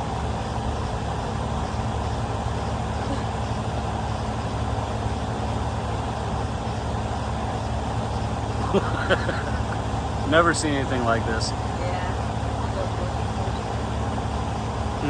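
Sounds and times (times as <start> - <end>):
vehicle motor rumble: 0.0 - 15.0.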